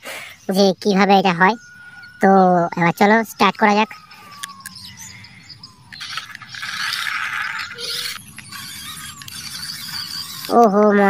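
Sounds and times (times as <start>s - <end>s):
toy truck electric motor and gears: 0.5s - 11.0s.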